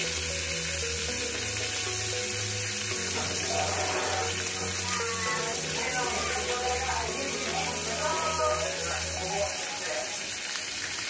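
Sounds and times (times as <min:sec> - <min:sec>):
background music: 0:00.0 - 0:11.0
meat sizzling on grill: 0:00.0 - 0:11.0.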